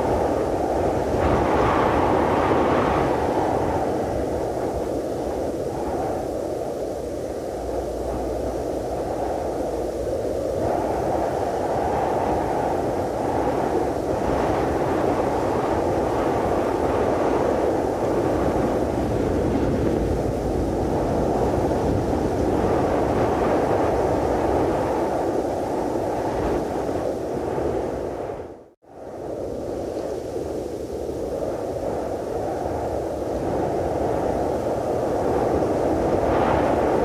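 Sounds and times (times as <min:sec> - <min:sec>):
wind blowing steadily: 0:00.0 - 0:37.0.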